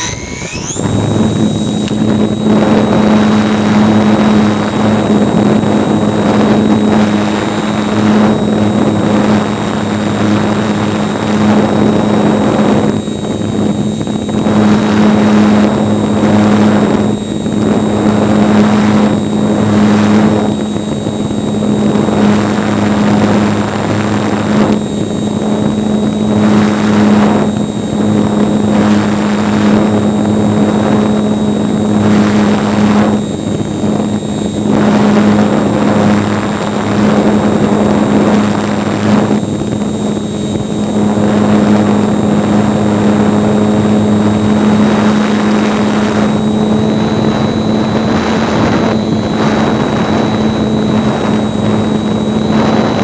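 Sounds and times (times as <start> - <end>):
model airplane motor and propeller: 0.0 - 53.0
wind rushing over microphone: 0.0 - 53.0.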